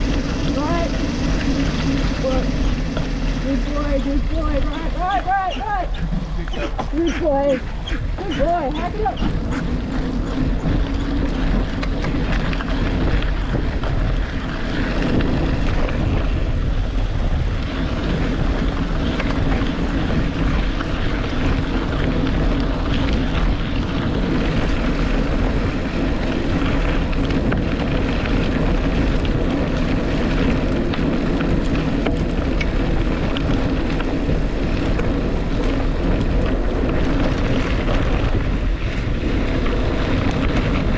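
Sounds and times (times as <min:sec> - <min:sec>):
road noise: 0:00.0 - 0:40.9
vehicle engine rumble: 0:00.0 - 0:40.9.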